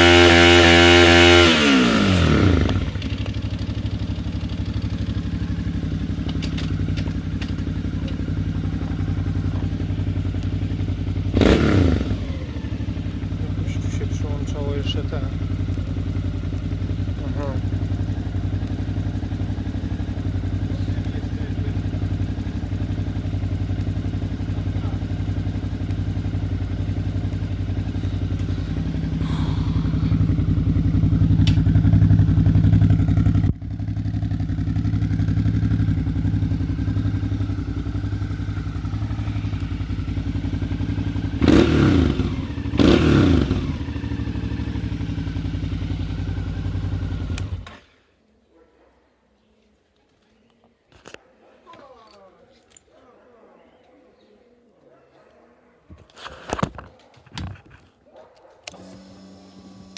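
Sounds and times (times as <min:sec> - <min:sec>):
motorcycle engine running: 0:00.0 - 0:47.8, 0:58.7 - 0:59.9.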